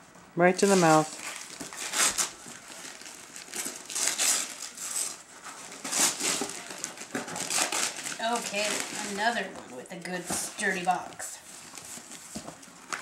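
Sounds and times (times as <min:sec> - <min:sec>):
wrapping paper crinkling: 0:00.6 - 0:13.0.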